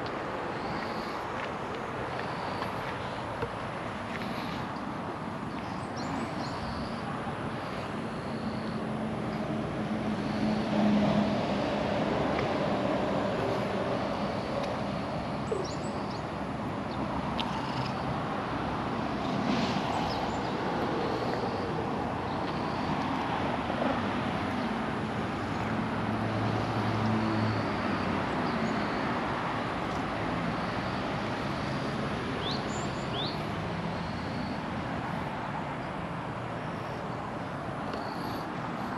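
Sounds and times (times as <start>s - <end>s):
steady outdoor noise: 0.0s - 38.9s.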